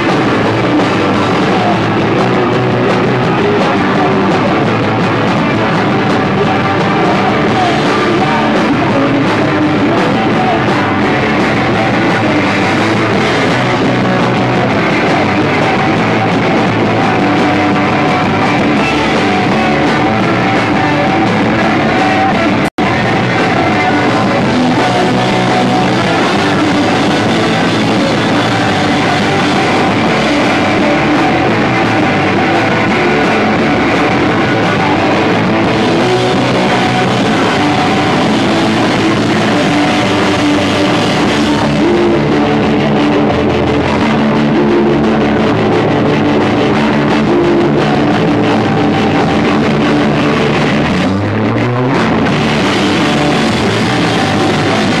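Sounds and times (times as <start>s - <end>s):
punk rock band playing live: 0.0s - 55.0s.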